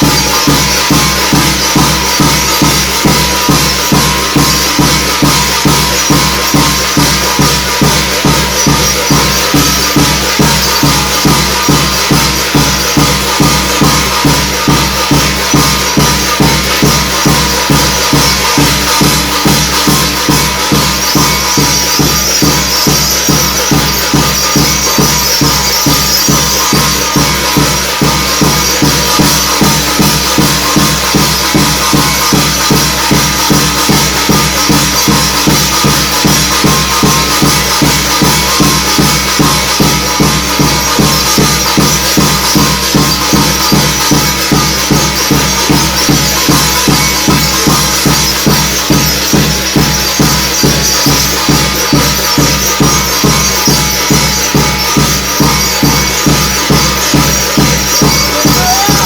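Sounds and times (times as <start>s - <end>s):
drums and cymbals fast beat: 0.0s - 59.0s.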